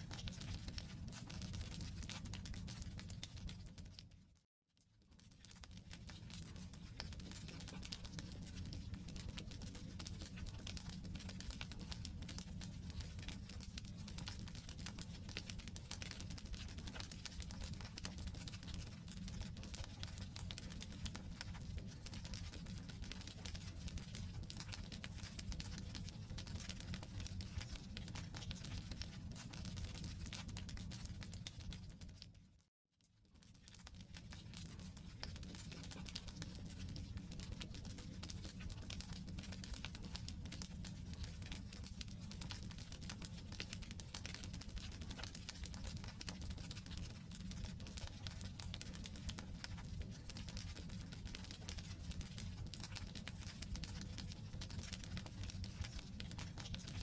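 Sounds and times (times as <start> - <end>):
low steady fire rumble: 5.9 - 31.9, 34.1 - 57.0.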